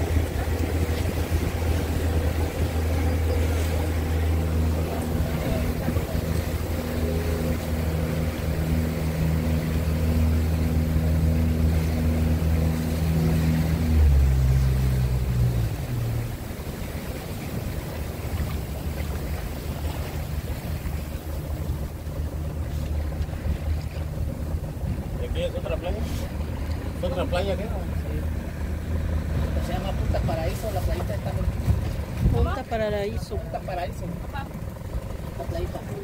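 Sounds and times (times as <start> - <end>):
motorboat engine running: 0.0 - 36.0
water wash: 0.0 - 36.0
wind: 0.0 - 36.0.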